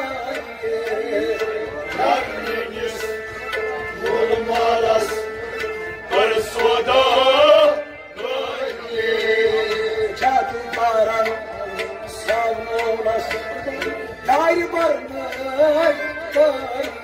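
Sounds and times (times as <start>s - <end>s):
harmonium drone: 0.0s - 17.0s
man singing: 0.0s - 17.0s.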